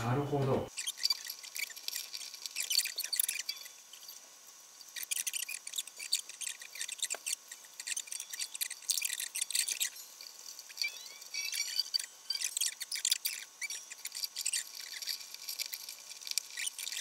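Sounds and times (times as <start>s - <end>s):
guitar strings scratching and squeaking: 0.7s - 4.1s, 4.8s - 17.0s.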